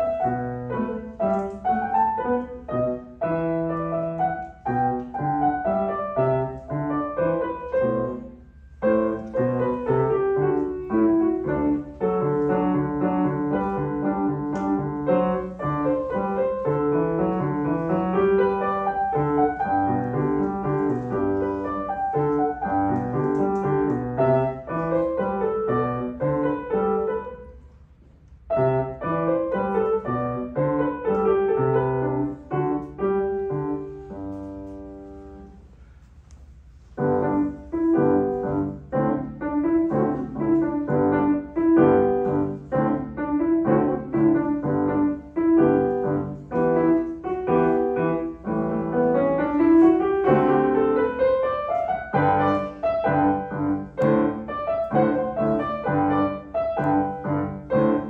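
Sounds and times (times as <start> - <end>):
solo grand piano piece: 0.0 - 58.0.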